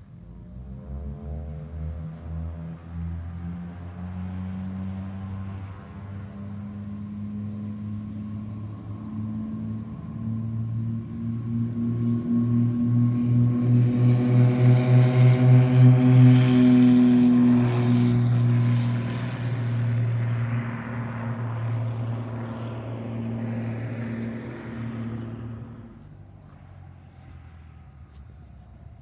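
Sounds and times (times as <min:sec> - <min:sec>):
propeller airplane passing by: 0:00.0 - 0:29.0.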